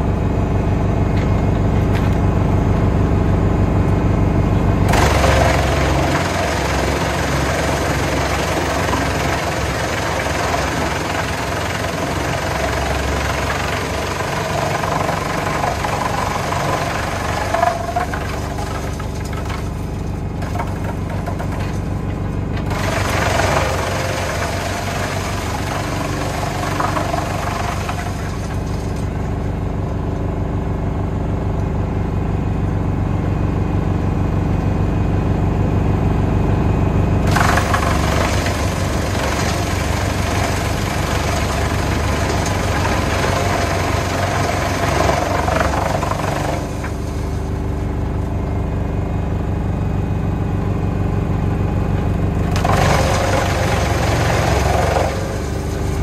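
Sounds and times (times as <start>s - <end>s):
wood chipper chipping logs: 0.0s - 35.7s, 36.8s - 56.0s
wood chipper running: 0.0s - 56.0s.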